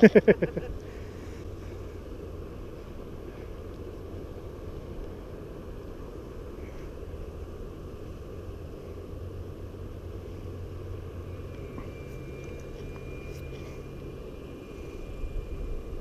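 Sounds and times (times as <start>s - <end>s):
faint high steady tone: 0.0s - 16.0s
low outdoor rumble: 0.0s - 16.0s.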